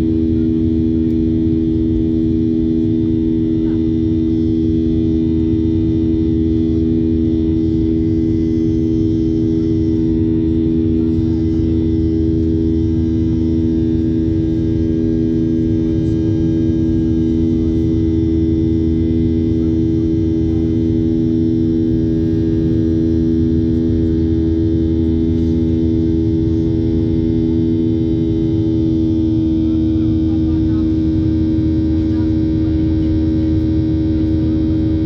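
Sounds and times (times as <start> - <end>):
heavy low cabin rumble: 0.0 - 35.0
jet engines droning hum: 0.0 - 35.0.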